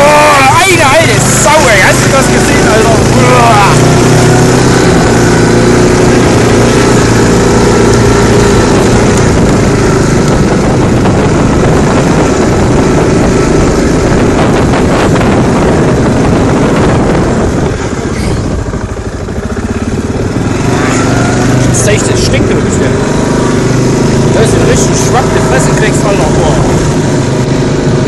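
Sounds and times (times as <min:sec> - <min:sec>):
quad bike engine running: 0:00.0 - 0:28.0.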